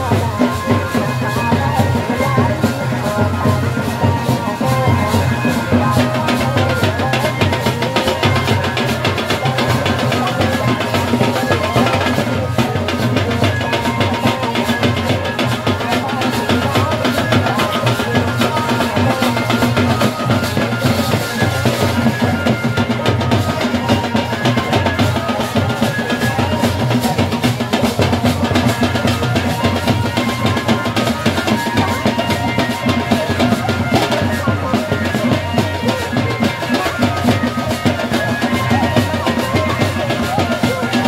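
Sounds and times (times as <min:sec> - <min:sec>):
wedding band music: 0:00.0 - 0:41.0.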